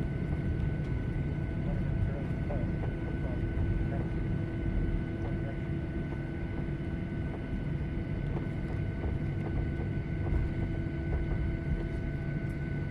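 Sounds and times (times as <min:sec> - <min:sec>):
airplane low rumble: 0:00.0 - 0:12.9
steady whining tones: 0:00.0 - 0:12.9.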